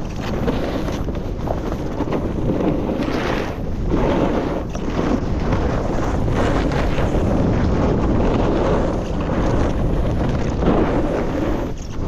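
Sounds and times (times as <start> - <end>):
snowboard scraping snow: 0.0 - 12.0
wind on microphone: 0.0 - 12.0.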